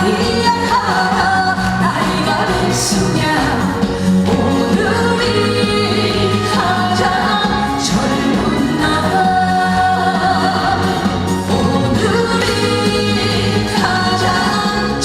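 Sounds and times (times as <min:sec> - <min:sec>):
live band playing: 0:00.0 - 0:15.0
woman singing: 0:00.0 - 0:15.0.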